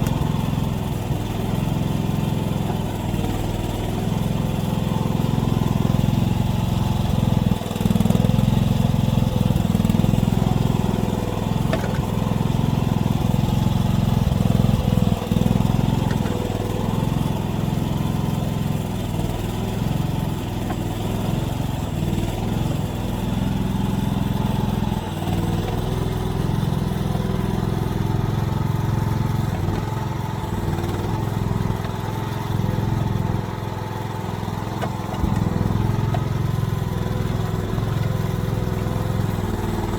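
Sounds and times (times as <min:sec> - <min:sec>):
small excavator engine running: 0:00.0 - 0:39.9.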